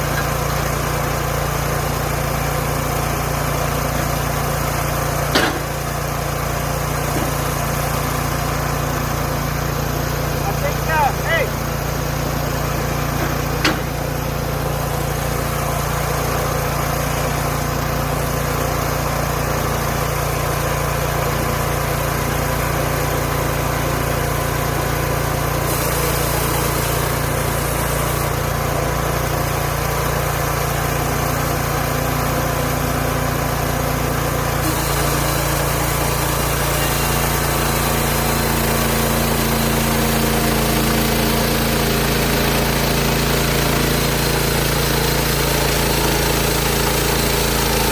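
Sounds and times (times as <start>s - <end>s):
small gasoline engine running: 0.0s - 47.9s.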